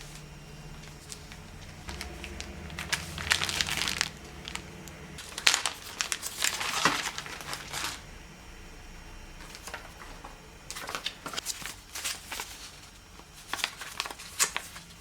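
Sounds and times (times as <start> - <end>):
plastic packaging crinkling: 0.0 - 8.1, 9.4 - 15.0.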